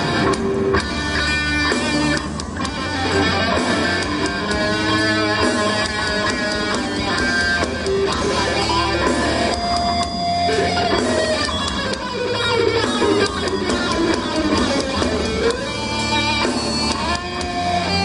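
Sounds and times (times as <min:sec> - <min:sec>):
lead guitar sustained notes: 0:00.0 - 0:18.0
metal band playing live: 0:00.0 - 0:18.0.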